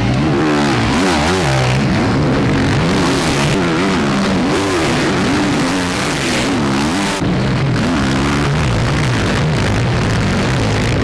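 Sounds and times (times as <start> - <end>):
motocross engines revving: 0.0 - 11.0.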